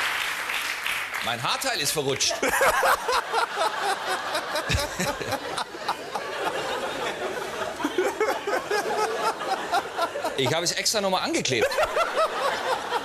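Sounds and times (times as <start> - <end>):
audience laughing: 2.1 - 13.0.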